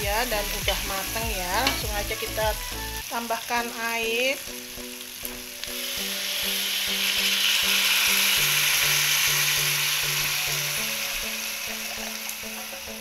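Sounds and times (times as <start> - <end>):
water hissing in hot oil: 0.0 - 13.0.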